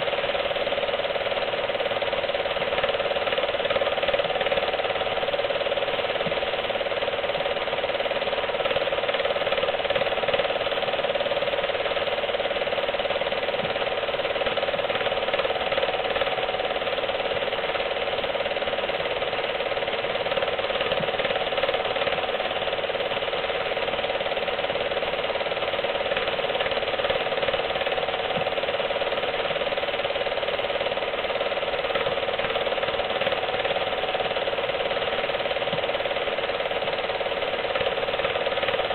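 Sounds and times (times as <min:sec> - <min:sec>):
film projector running: 0:00.0 - 0:38.9.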